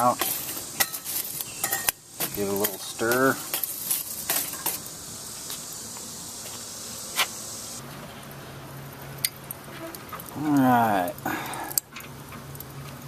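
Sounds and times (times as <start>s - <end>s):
charcoal hissing: 0.0s - 13.0s.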